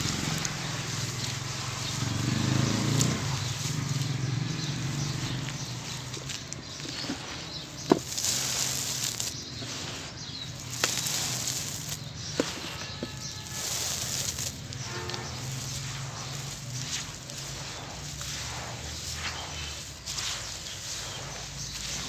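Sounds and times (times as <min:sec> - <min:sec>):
dust crumbling onto floor: 0:00.0 - 0:22.0.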